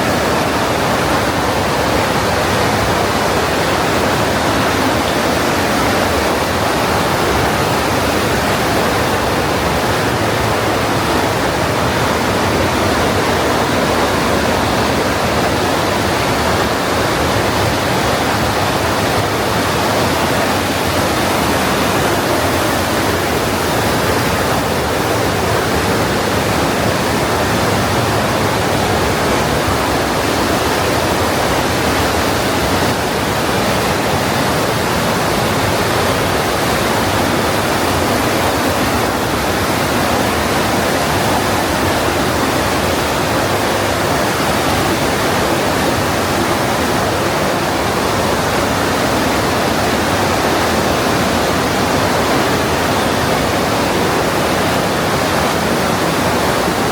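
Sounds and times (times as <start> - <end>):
mountain stream rushing: 0.0 - 56.9.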